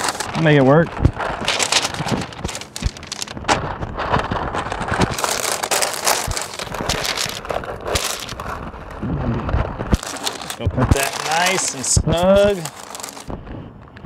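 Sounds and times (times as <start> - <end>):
paper rustling and crinkling: 0.0 - 13.4.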